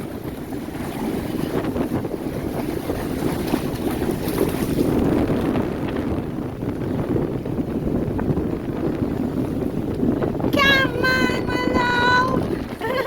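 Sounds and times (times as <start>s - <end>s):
waves washing: 0.0s - 13.0s
wind buffeting microphone: 0.0s - 13.0s.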